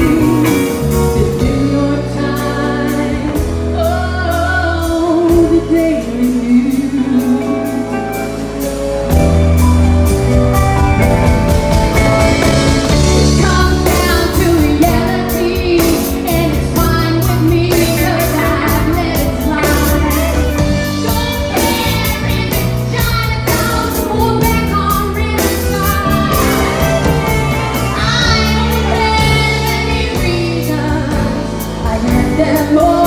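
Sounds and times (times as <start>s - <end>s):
woman singing: 0.0s - 8.3s, 13.0s - 33.0s
live band playing: 0.0s - 33.0s.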